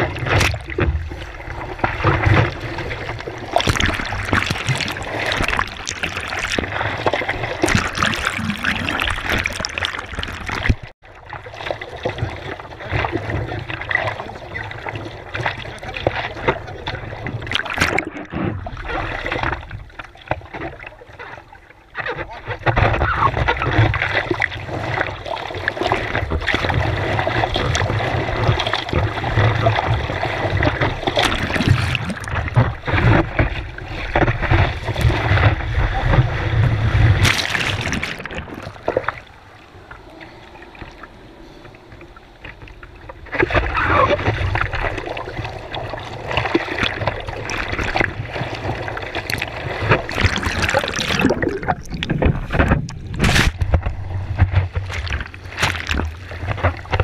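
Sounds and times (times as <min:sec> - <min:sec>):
sea water rushing and splashing: 0:00.0 - 0:57.0.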